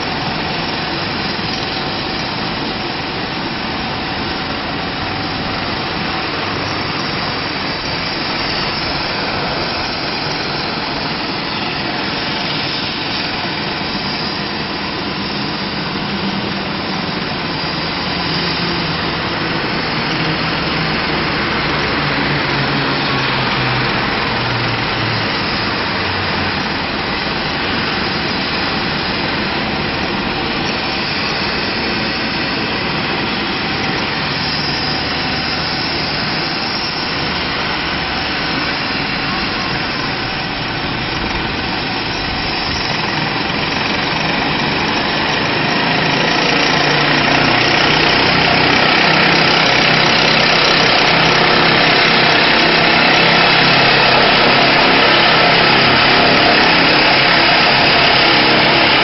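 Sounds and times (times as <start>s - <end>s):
helicopter turbine engines idling: 0.0s - 59.0s.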